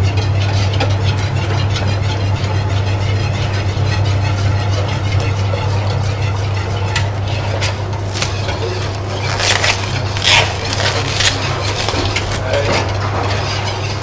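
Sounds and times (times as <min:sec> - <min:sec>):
steady low hum: 0:00.0 - 0:14.0
whisk clicking and scraping metal pot: 0:00.0 - 0:14.0.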